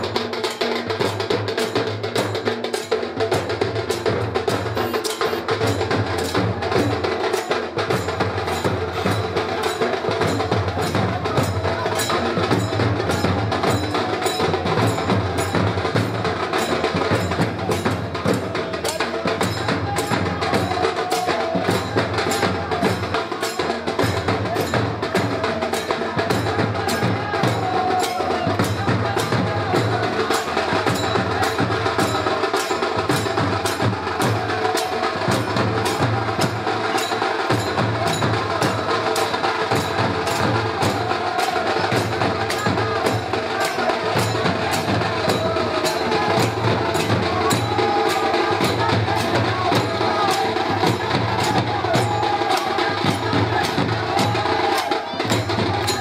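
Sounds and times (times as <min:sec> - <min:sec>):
procession drum and clicking percussion: 0:00.0 - 0:56.0.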